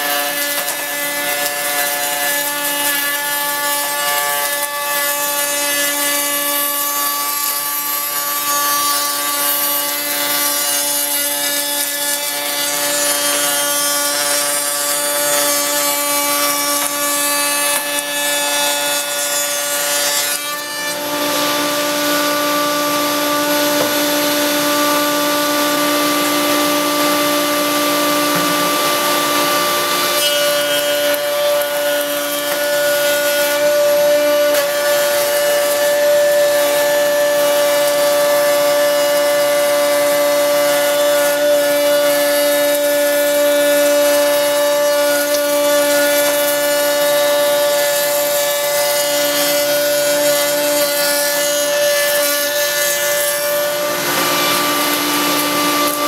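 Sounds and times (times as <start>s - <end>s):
router bit cutting wood: 0.0s - 56.0s.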